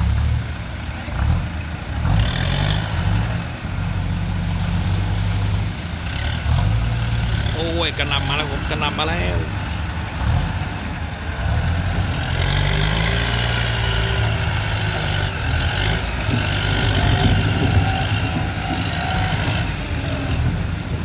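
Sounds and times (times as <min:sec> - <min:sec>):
heavy rain hissing: 0:00.0 - 0:21.0
tractor diesel engine running: 0:00.0 - 0:21.0.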